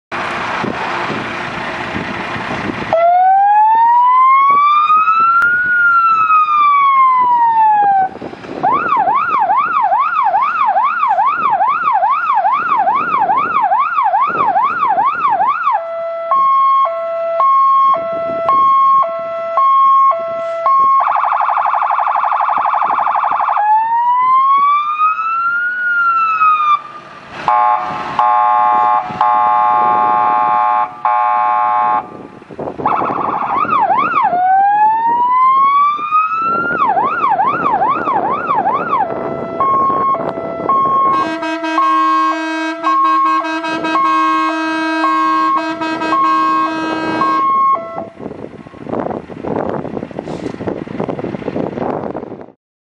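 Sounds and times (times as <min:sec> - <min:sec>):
fire truck siren: 0:00.1 - 0:51.5.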